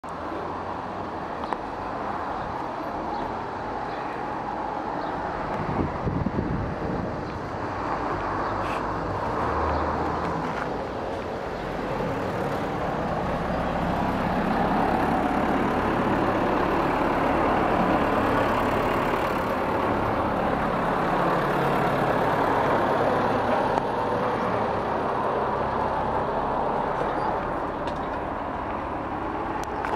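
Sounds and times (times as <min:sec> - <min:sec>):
road traffic rumble: 0:00.0 - 0:29.9.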